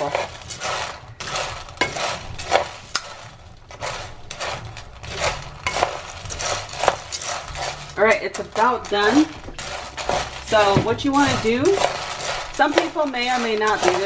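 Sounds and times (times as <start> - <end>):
nuts rattling in a skillet: 0.0 - 14.0
wooden spatula stirring: 0.0 - 14.0.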